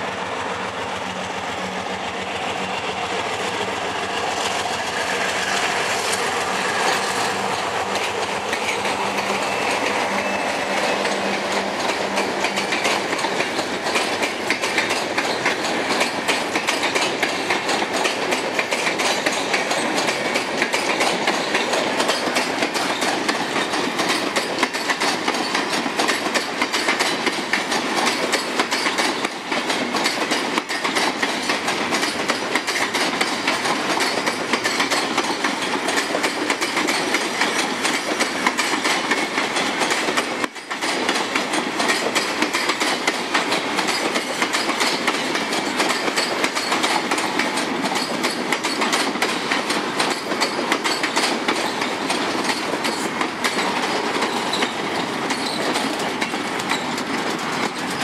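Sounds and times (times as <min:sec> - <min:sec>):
train wheels clattering over rail joints: 0:00.1 - 0:58.0.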